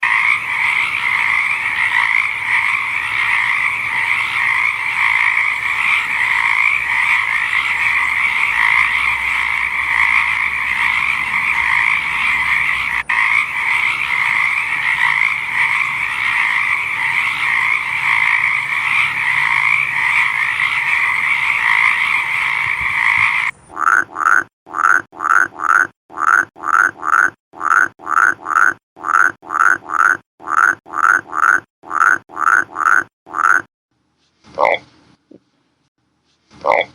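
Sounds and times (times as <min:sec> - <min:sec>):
frog chorus trilling: 0:00.0 - 0:33.6
single frog croaking: 0:00.0 - 0:33.7.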